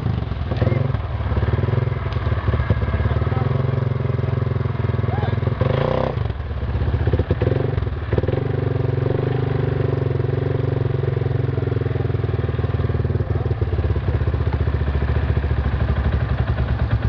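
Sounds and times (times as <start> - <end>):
atv engine idling: 0.0 - 17.0.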